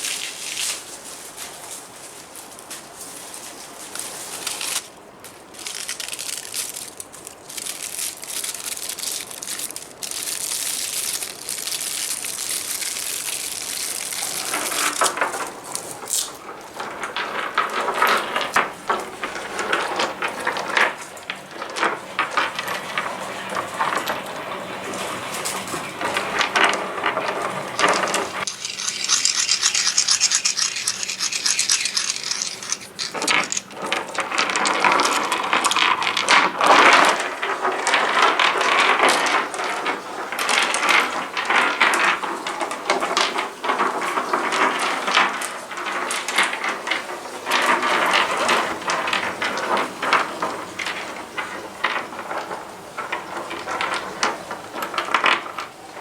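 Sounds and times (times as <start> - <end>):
rubbing and scraping on objects: 0.0 - 56.0.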